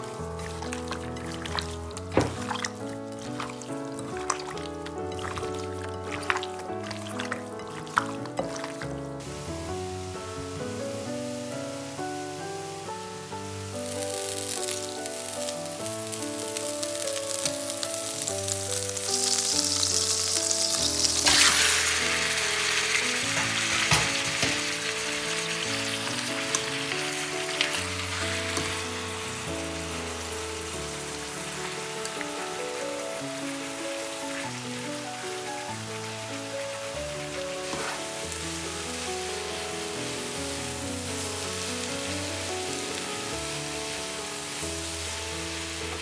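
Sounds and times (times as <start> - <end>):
background music: 0.0 - 46.0
chicken sizzling in frying pan: 0.0 - 46.0.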